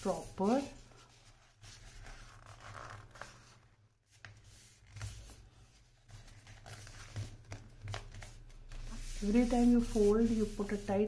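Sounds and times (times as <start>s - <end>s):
paper rustling: 0.0s - 11.0s
paper scraping: 0.0s - 11.0s.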